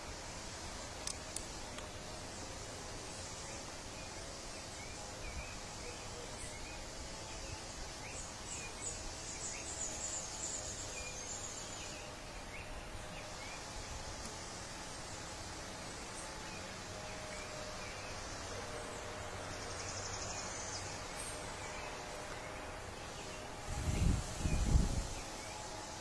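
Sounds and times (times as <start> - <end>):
high-pitched insect buzz: 0.0 - 26.0
steady background hiss: 0.0 - 26.0.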